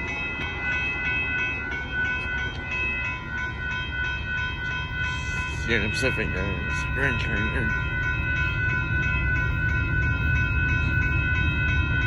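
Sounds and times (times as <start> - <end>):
crossing warning bell ringing: 0.0 - 12.0.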